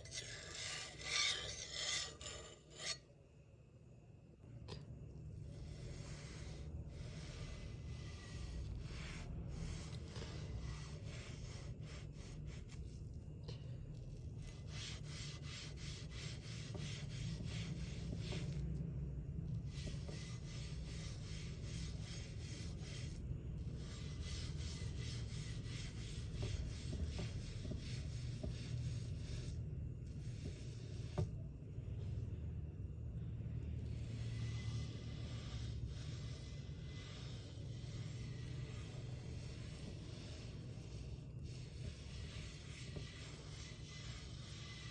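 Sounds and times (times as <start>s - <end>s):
paint tool scraping paint: 0.0s - 3.0s, 5.4s - 13.2s, 13.9s - 18.6s, 19.5s - 31.4s, 33.8s - 44.9s.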